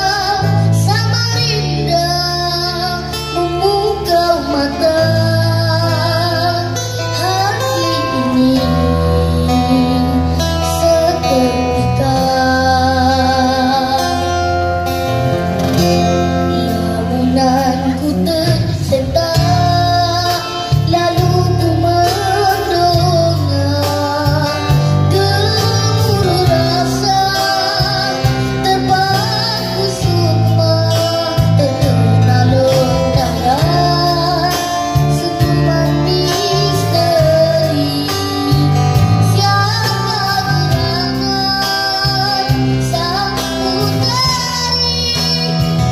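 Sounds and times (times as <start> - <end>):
acoustic guitar: 0.0 - 45.9
boy singing into a microphone: 0.0 - 45.9
drums: 0.0 - 45.9
electric bass guitar: 0.0 - 45.9.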